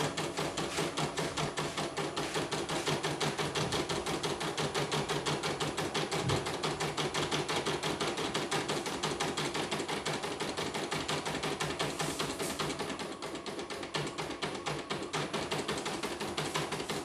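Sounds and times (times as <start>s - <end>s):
embroidery machine stitching: 0.0s - 17.0s.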